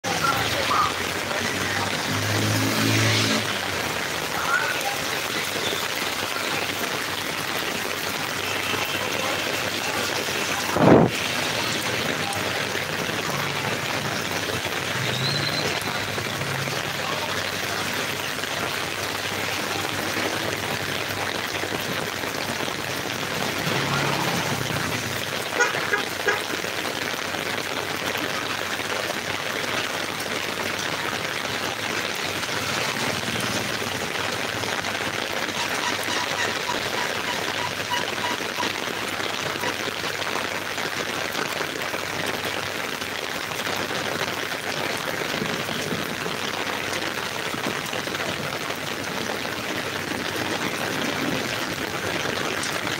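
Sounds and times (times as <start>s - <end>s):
rain on an umbrella: 0.0s - 52.9s.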